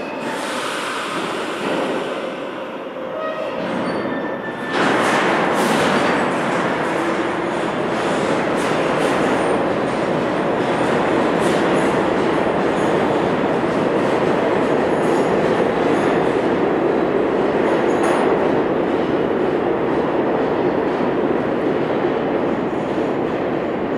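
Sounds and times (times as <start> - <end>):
subway train wheels on rails: 0.0 - 23.9.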